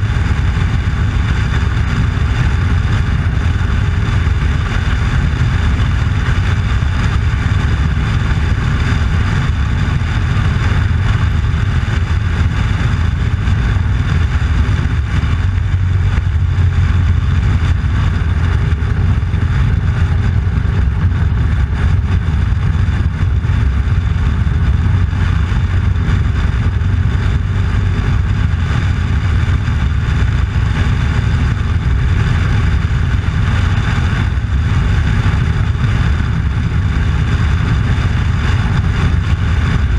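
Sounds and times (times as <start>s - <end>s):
motorcycle engine rumble: 0.0s - 39.9s
road and wind noise: 0.0s - 39.9s.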